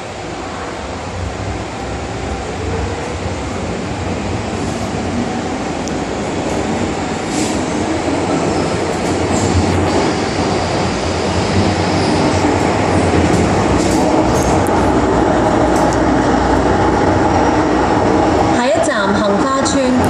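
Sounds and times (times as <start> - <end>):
metro train wheel and rail noise: 0.0 - 20.0.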